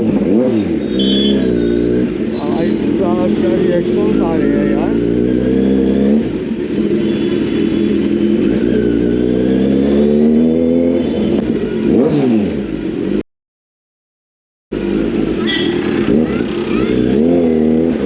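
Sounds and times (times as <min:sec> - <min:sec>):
motorcycle engine revving: 0:00.0 - 0:13.2, 0:14.7 - 0:18.0.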